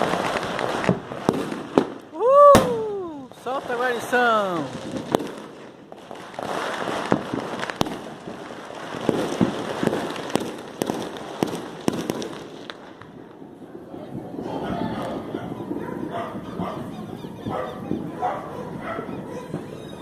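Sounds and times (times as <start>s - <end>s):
fireworks bangs and pops: 0.0s - 20.0s
fireworks crackle: 0.0s - 20.0s.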